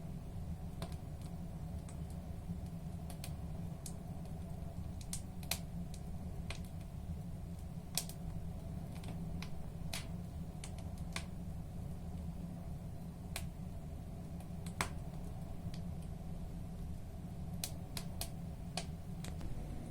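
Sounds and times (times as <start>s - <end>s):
firewood crackling and popping: 0.0s - 19.5s.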